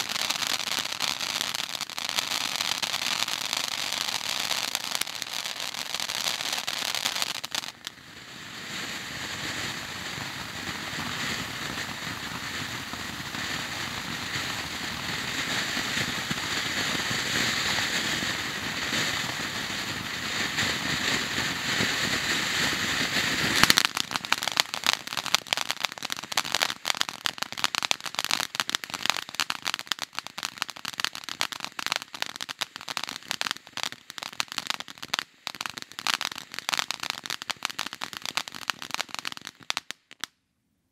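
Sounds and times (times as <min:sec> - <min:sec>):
firework fountain hissing sparks: 0:00.0 - 0:40.3.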